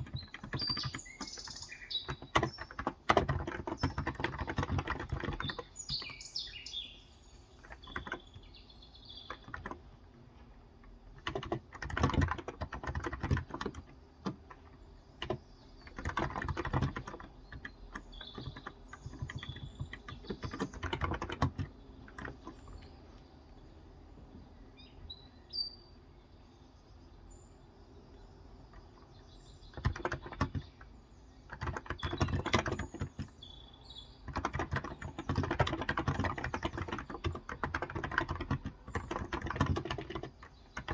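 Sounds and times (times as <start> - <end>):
muted keyboard typing: 0.0 - 6.5, 7.5 - 23.2, 28.6 - 40.9
birds chirping: 0.0 - 40.9.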